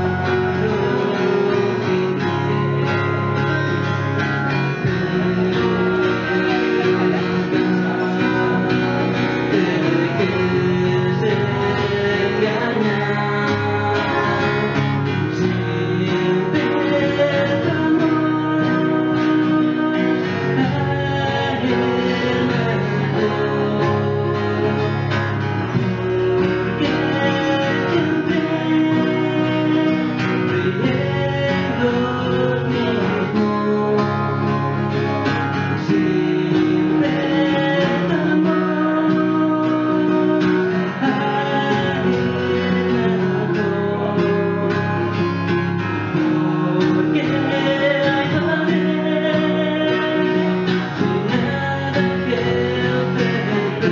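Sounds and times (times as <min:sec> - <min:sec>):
acoustic guitars: 0:00.0 - 0:53.9
man singing: 0:00.0 - 0:53.9.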